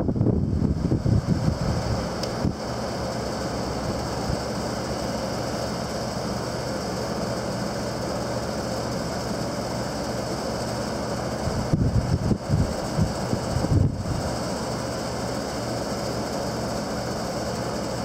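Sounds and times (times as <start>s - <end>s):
air conditioner fan drone: 0.0s - 18.0s.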